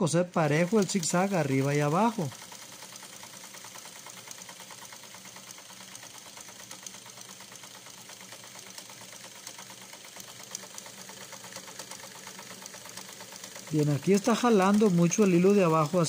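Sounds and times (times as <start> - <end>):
sewing machine ticking: 0.0 - 16.0.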